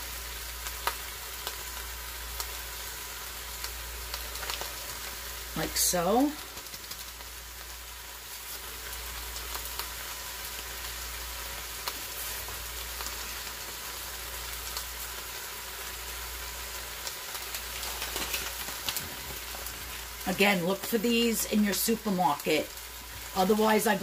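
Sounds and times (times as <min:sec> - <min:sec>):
food sizzling in a pot: 0:00.0 - 0:24.0.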